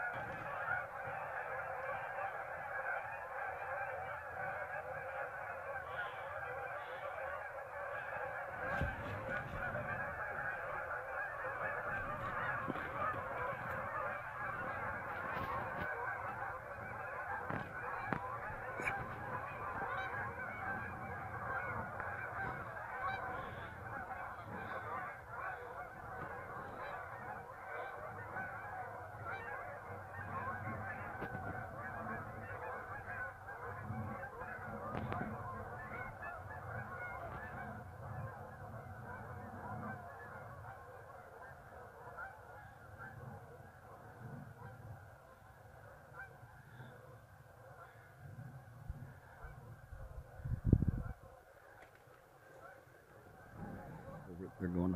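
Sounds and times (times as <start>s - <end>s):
flock of geese honking: 0.0s - 54.9s.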